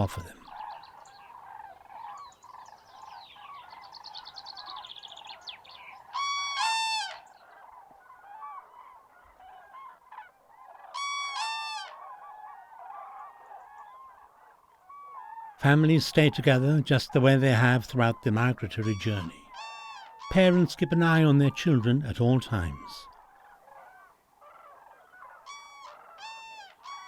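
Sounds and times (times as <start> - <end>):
loud multi-note crane calls: 0.0 - 27.0
murmur of crane calls: 0.0 - 27.0.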